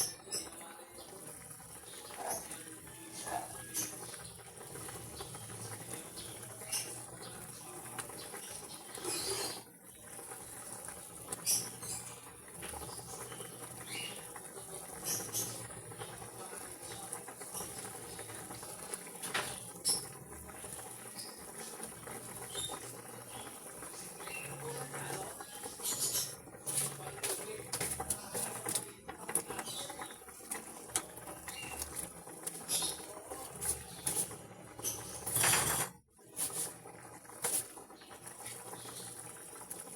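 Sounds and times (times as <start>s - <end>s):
food crackling in a pan: 0.0s - 39.9s.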